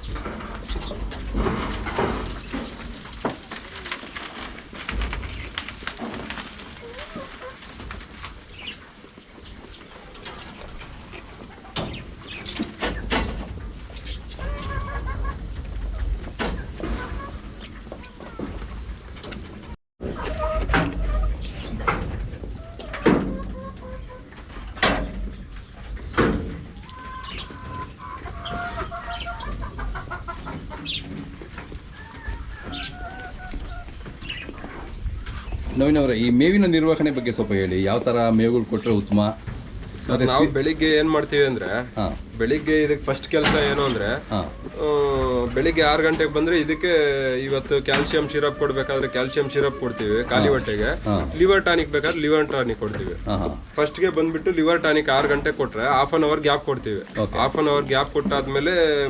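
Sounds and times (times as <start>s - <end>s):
birds chirping: 0.0s - 7.6s, 8.3s - 19.8s, 21.0s - 59.0s
chickens clucking: 0.0s - 59.0s.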